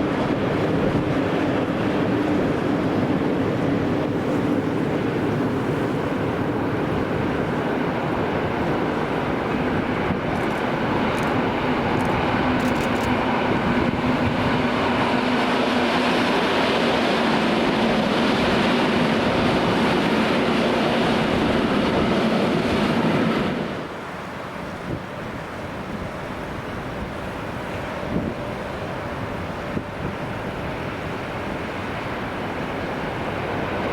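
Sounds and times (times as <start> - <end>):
electric train passing: 0.0 - 33.9.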